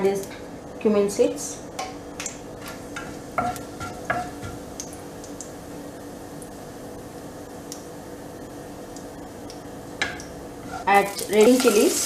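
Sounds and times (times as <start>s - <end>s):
seeds frying in hot oil: 0.0s - 12.0s.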